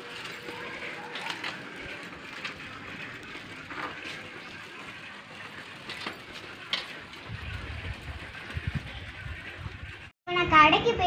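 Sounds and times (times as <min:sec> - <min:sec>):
bicycle rolling over paving stones: 0:00.0 - 0:10.1
steady outdoor hum: 0:00.0 - 0:11.0.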